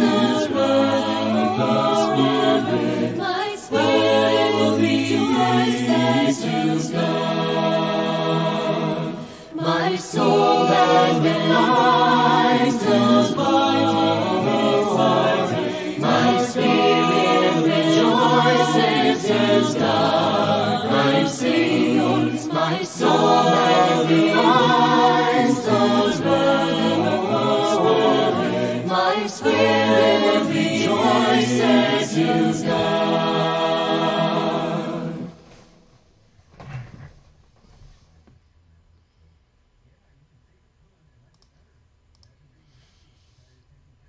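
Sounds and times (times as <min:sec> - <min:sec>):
choir singing a slow chant: 0:00.0 - 0:35.8.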